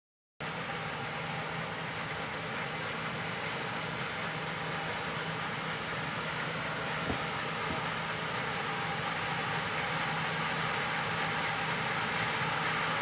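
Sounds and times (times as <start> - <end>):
combine harvester humming: 1.0 - 13.0.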